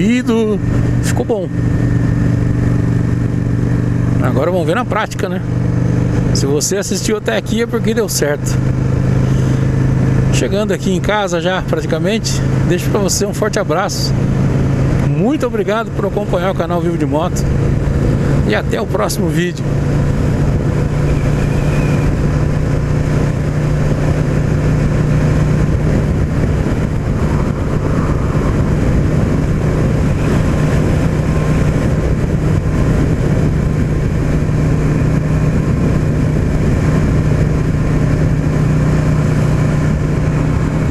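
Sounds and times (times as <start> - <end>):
wind noise: 0.0 - 6.4, 13.6 - 40.9
motorcycle engine running: 0.0 - 40.9
road noise: 0.0 - 40.9.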